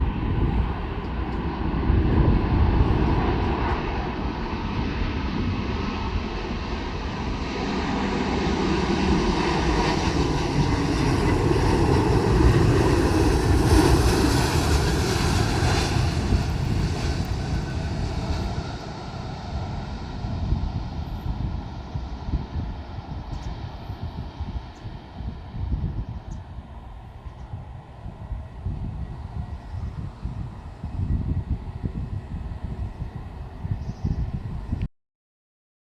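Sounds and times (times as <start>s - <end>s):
jet airliner passing by: 0.0s - 34.9s.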